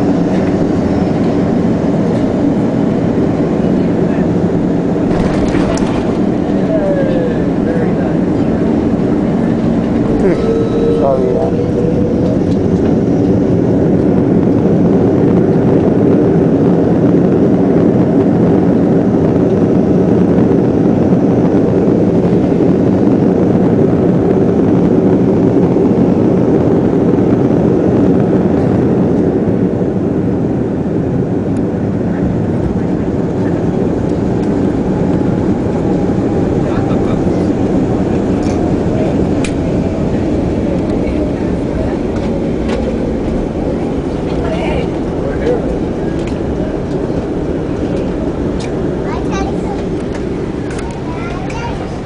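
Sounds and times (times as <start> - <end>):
airliner cabin engine and airflow noise: 0.0 - 52.0.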